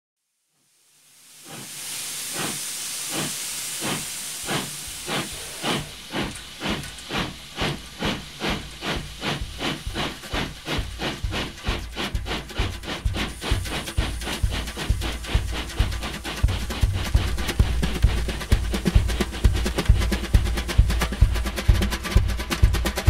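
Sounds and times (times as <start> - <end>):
steam hissing: 0.6 - 23.0
steam locomotive chuffing: 1.1 - 23.0.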